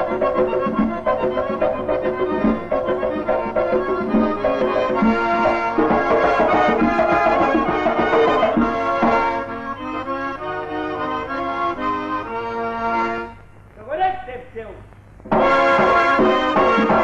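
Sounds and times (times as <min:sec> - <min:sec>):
instrumental folk dance music: 0:00.0 - 0:13.8, 0:15.2 - 0:17.0.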